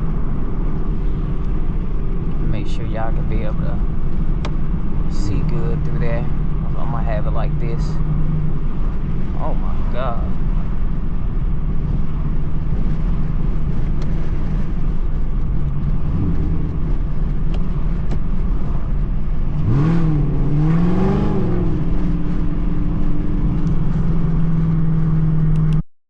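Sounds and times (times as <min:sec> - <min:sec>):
car engine and exhaust drone: 0:00.0 - 0:25.8.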